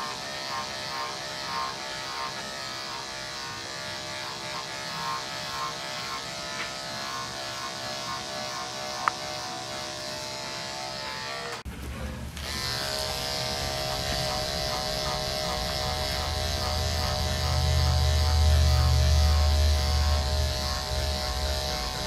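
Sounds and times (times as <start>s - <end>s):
electric clipper buzzing: 0.0s - 11.7s, 12.4s - 22.0s.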